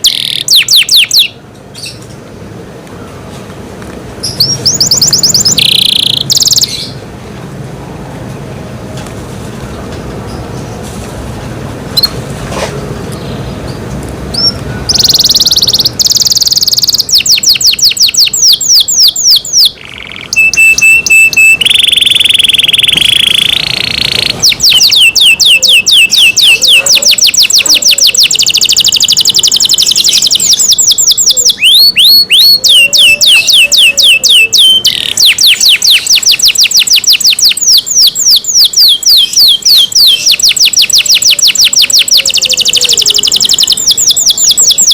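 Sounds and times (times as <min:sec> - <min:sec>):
canary singing trills: 0:00.0 - 0:02.1, 0:04.2 - 0:07.0, 0:11.9 - 0:12.2, 0:13.1 - 0:44.9.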